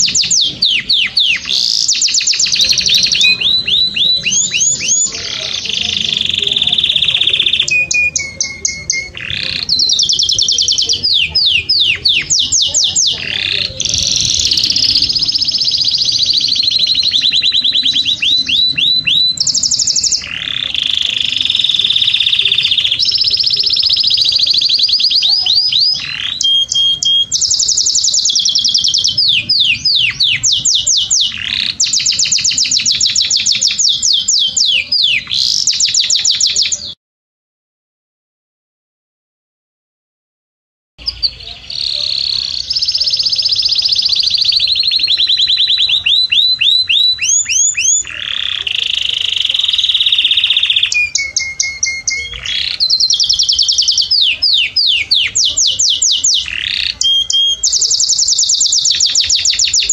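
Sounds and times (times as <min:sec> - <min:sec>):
canary singing trills: 0:00.0 - 0:37.0, 0:41.0 - 0:59.9.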